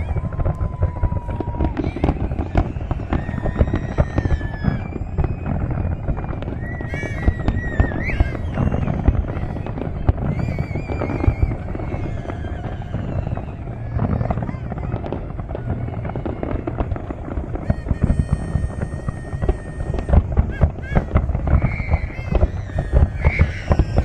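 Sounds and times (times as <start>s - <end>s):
fireworks bangs and crackling: 0.0s - 24.0s
fireworks whistling: 0.0s - 24.0s.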